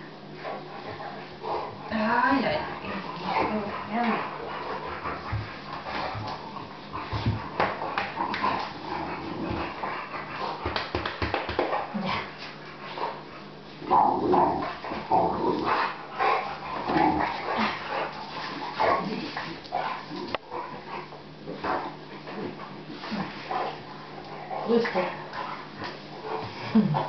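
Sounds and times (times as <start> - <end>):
dogs snuffling and licking: 0.2 - 27.0.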